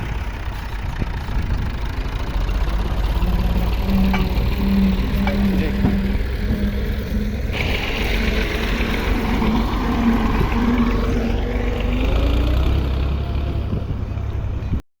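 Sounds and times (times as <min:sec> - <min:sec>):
tractor engine running: 0:00.0 - 0:14.8.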